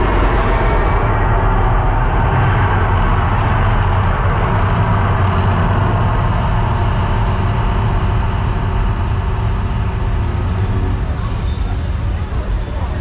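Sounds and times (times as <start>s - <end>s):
crowd murmuring: 0.0s - 13.0s
deep rumble: 0.0s - 13.0s.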